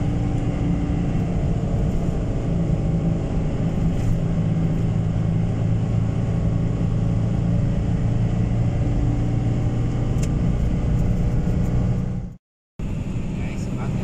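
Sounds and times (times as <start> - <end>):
car engine and road noise hum: 0.0 - 14.0.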